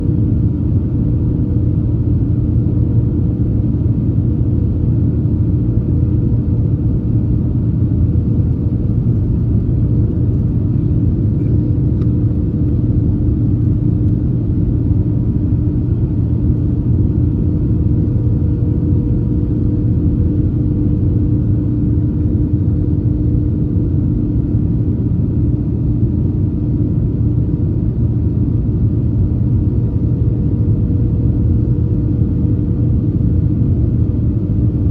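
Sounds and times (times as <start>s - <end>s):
airliner cabin rumble: 0.0s - 34.9s
steady hums: 0.0s - 34.9s.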